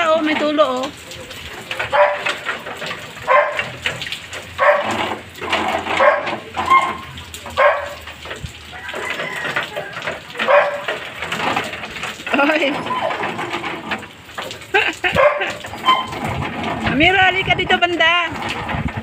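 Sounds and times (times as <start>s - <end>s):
rain on concrete: 0.0s - 19.0s.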